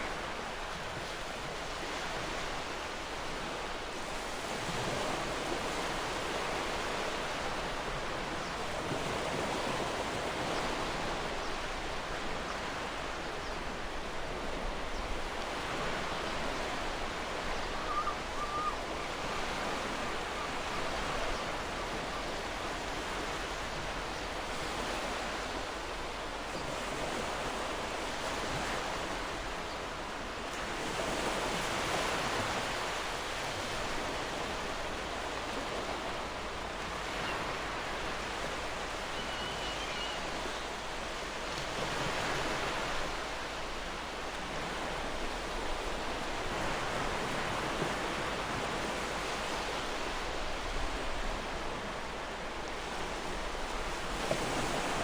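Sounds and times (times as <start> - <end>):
ocean waves washing on shore: 0.0 - 55.0.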